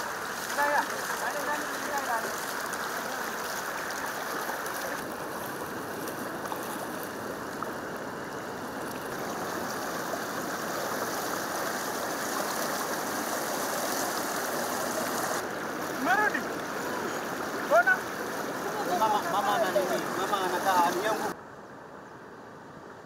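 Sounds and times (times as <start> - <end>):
rush of flowing floodwater: 0.0 - 21.4.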